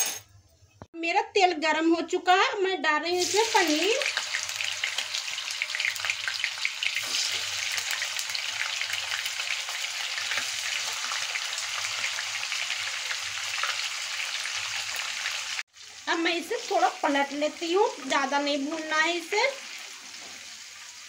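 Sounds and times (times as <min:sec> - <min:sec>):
food sizzling in hot oil: 0:03.1 - 0:21.0.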